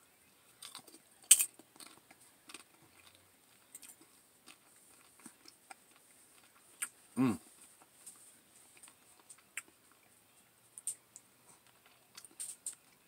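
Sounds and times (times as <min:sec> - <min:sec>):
chewing with small crunches: 0:00.2 - 0:13.0.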